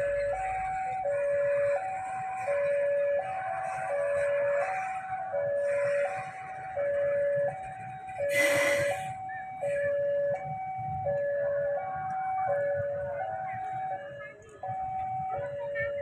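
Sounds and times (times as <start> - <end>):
two-tone level crossing alarm: 0.0 - 16.0.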